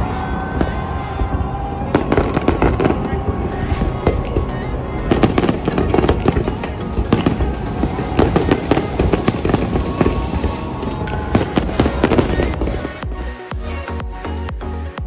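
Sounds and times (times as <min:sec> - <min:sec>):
music playing: 0:00.0 - 0:15.0
fireworks bangs and crackles: 0:00.6 - 0:13.1.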